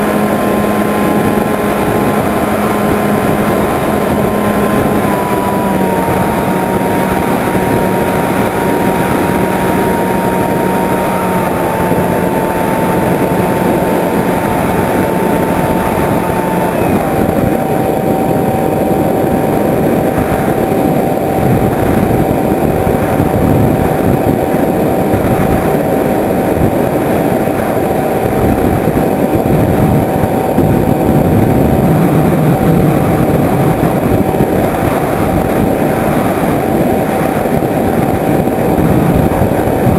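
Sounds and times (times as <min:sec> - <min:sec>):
model plane motor whining: 0:00.0 - 0:39.9
wind rushing: 0:00.0 - 0:39.9.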